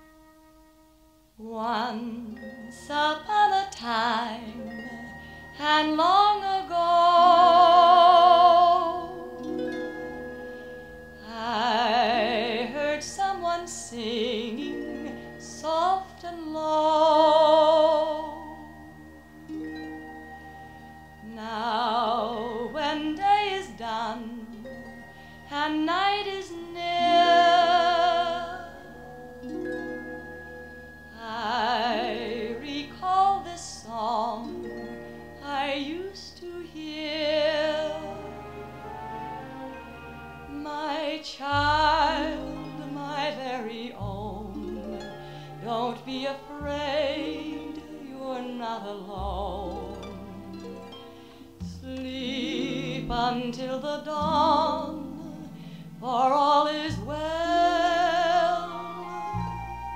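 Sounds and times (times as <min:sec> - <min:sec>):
soft orchestral accompaniment: 0:00.0 - 0:59.9
woman singing with vibrato: 0:01.4 - 0:10.0, 0:11.2 - 0:19.6, 0:21.2 - 0:29.9, 0:31.1 - 0:59.9.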